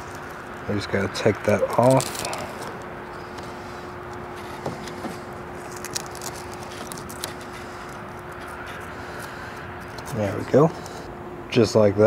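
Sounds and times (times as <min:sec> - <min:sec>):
velcro strap rustling: 0:00.0 - 0:00.5, 0:01.6 - 0:11.0
steady low hum: 0:00.0 - 0:12.0.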